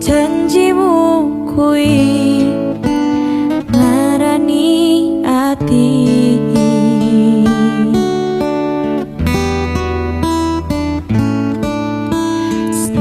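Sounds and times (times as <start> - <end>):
pop song guitar chords: 0.0 - 13.0.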